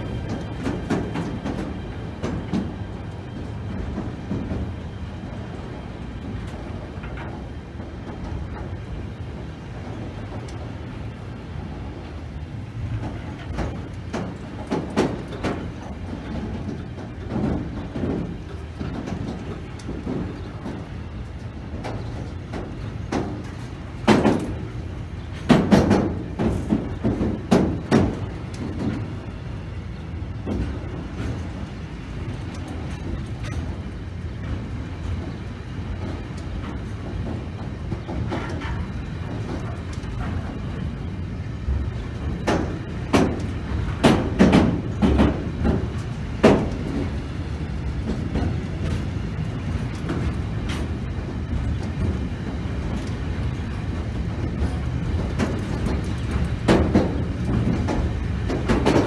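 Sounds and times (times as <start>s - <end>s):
train clanks and knocks: 0.0s - 59.0s
train rumbling: 0.0s - 59.0s.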